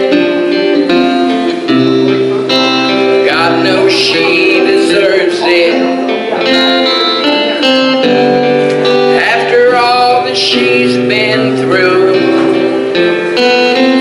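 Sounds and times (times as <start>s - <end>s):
guitar accompaniment: 0.0s - 14.0s
man singing into microphone: 0.0s - 14.0s.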